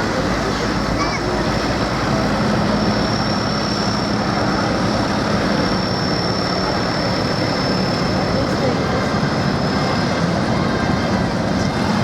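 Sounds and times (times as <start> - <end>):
high-pitched whine: 0.0 - 12.0
tractor engines running: 0.0 - 12.0.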